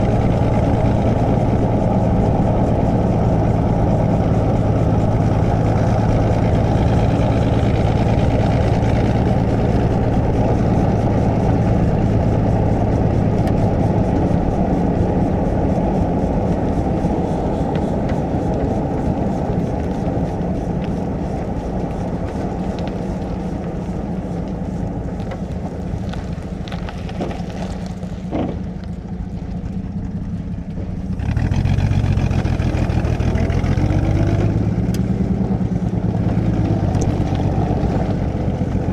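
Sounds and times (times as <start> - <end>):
car engine driving: 0.0 - 38.9.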